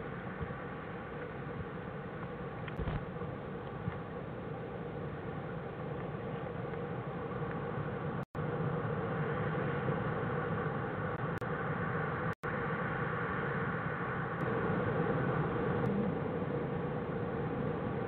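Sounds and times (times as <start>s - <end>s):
electronic hiss and hum: 0.0s - 18.0s.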